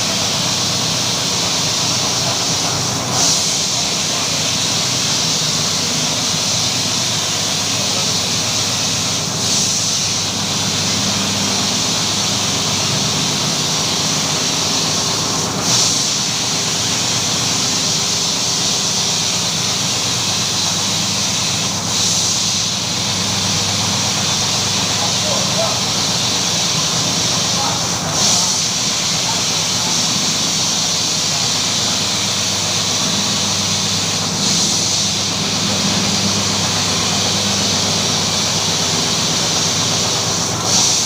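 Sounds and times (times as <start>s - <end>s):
carpet-washing machine motor hum: 0.0s - 41.0s
loud hiss: 0.0s - 41.0s.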